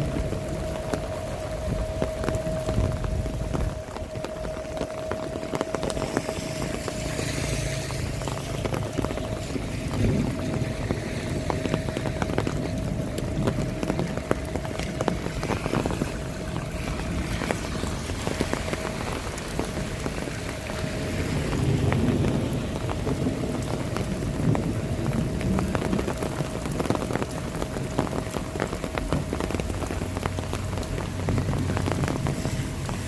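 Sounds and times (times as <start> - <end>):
low rumble: 0.0 - 33.0
rain drops striking close: 0.0 - 33.0.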